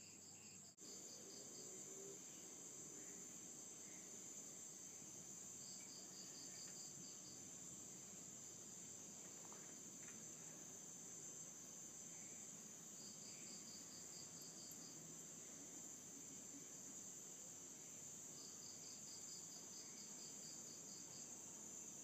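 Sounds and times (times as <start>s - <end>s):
crickets trilling: 0.0s - 22.0s
insect rapid chirps: 0.0s - 22.0s.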